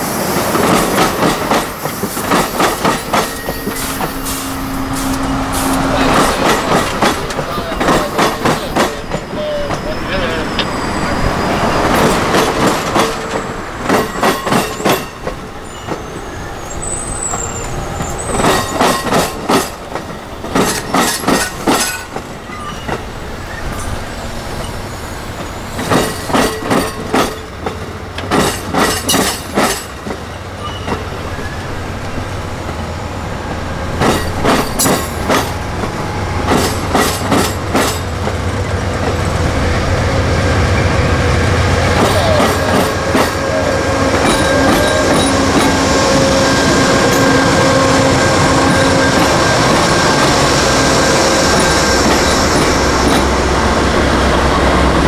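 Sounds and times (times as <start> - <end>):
train wheels clacking: 0.0 - 32.8, 33.9 - 39.4, 40.6 - 55.0
train rolling noise: 0.0 - 55.0.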